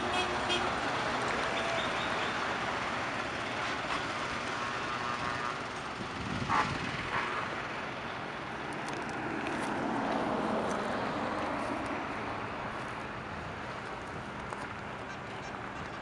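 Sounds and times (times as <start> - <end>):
road noise: 0.0 - 16.0
truck diesel engines rumbling: 0.0 - 16.0.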